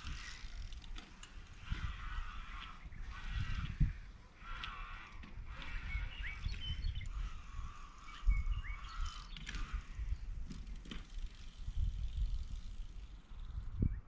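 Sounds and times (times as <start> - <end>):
wind buffeting microphone: 0.0 - 14.0
distant birds chirping: 0.1 - 11.5.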